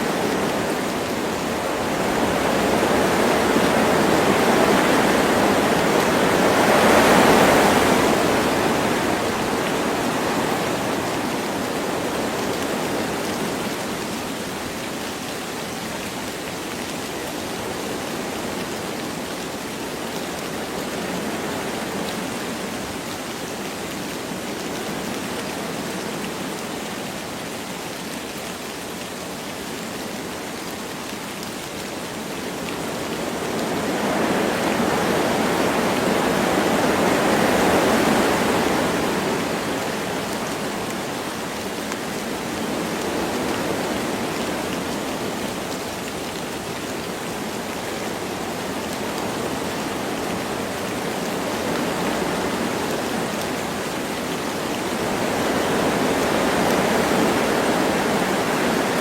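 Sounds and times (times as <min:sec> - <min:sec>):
light rain: 0:00.0 - 0:59.0
wind through trees: 0:00.0 - 0:59.0.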